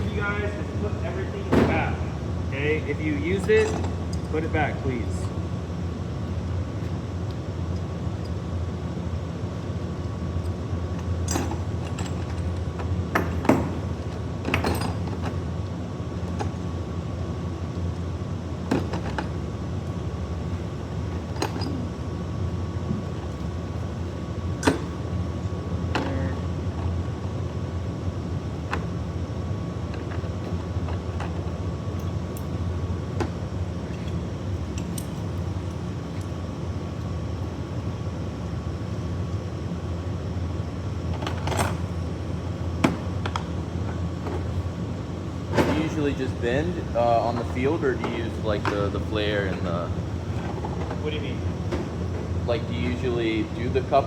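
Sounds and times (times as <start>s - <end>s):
low machinery hum: 0.0s - 54.0s.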